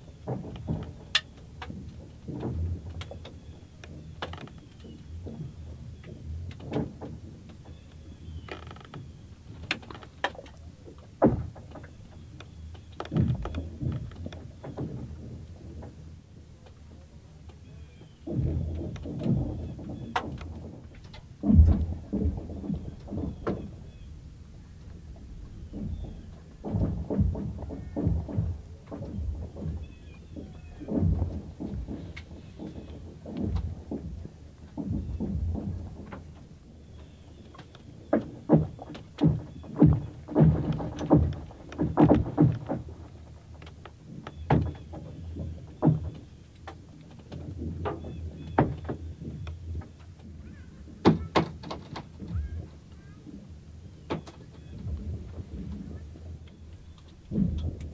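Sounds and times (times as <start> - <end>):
lake ice cracking: 0.0 - 57.9.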